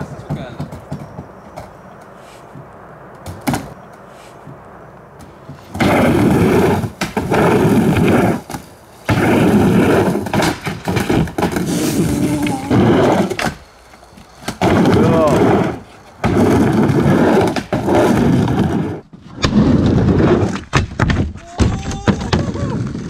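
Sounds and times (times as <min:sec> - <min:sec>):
skateboard wheels rolling on wood: 0:00.0 - 0:23.0.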